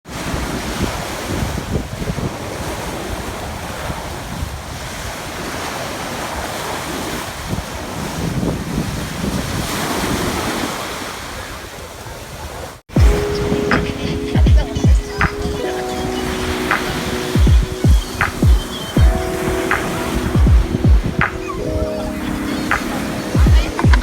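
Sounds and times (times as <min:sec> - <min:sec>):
wind buffeting microphone: 0:00.1 - 0:10.9, 0:12.3 - 0:24.0
sea waves rushing: 0:00.1 - 0:24.0.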